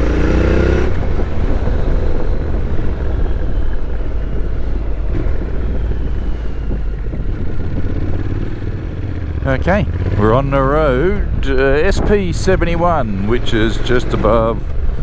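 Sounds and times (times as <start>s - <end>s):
motorcycle engine: 0.0s - 15.0s
wind and road noise: 0.0s - 15.0s.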